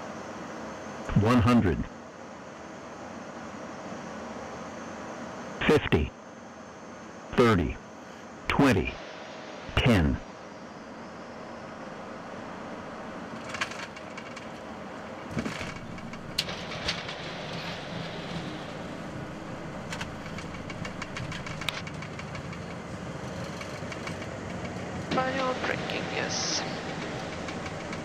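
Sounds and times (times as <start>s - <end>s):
engine and runway noise: 0.0s - 28.0s.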